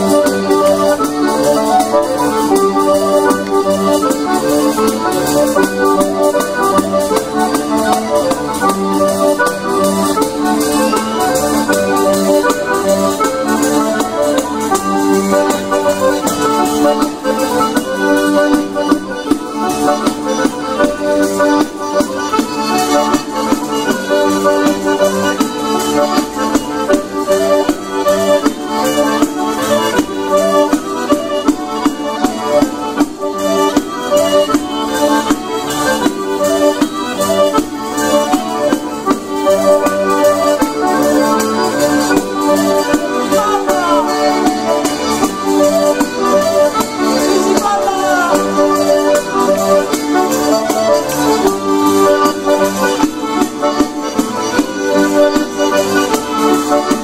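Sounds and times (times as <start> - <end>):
bagpipes: 0.0 - 57.0
button accordions playing: 0.0 - 57.0
folk flute: 0.0 - 57.0.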